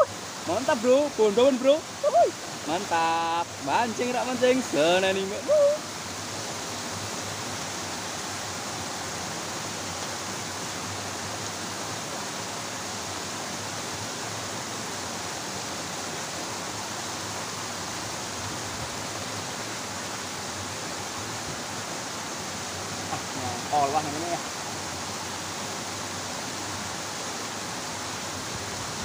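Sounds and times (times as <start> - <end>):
water rushing down cascade: 0.0 - 29.0.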